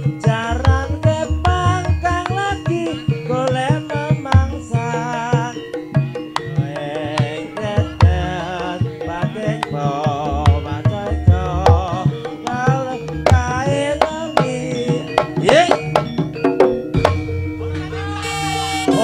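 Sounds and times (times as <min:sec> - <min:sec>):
hand drums beating fast: 0:00.0 - 0:19.0
high wavering melody: 0:00.0 - 0:19.0
steady held tones: 0:00.0 - 0:19.0.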